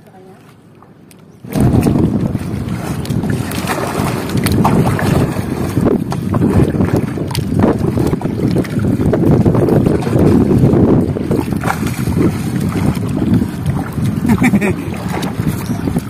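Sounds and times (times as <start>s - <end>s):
water lapping and splashing: 0.0s - 16.0s
wind buffeting the microphone: 1.3s - 16.0s.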